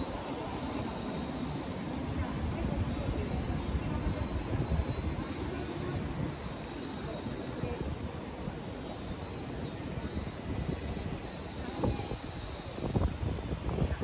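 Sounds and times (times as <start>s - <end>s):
traffic and crowd rumble: 0.0s - 14.0s.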